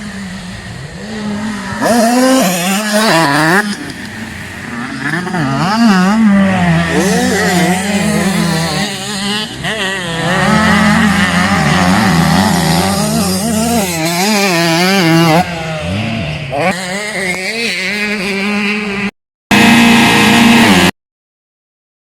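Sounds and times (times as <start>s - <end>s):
motocross bike engines revving: 0.0s - 20.9s.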